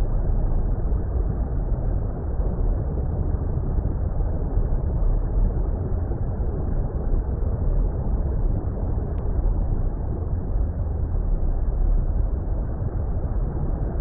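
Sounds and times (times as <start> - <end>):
deep water rumble: 0.0 - 14.0.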